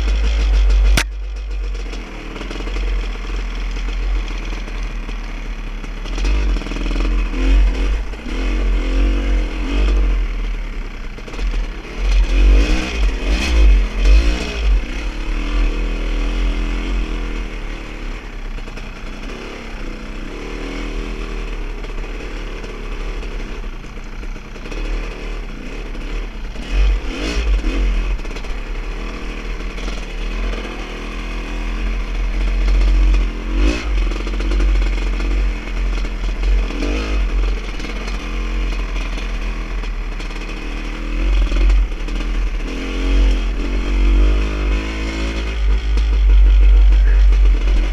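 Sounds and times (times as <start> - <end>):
vehicle engine revving: 5.9 - 18.4, 19.0 - 23.6, 24.4 - 47.9.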